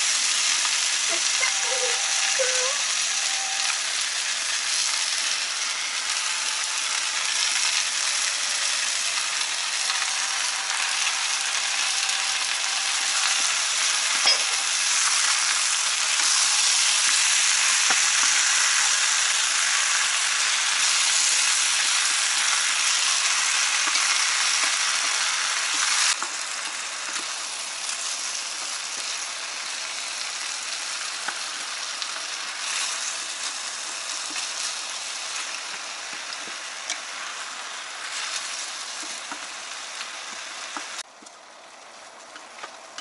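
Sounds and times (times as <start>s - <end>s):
vegetables and meat sizzling: 0.0s - 43.0s.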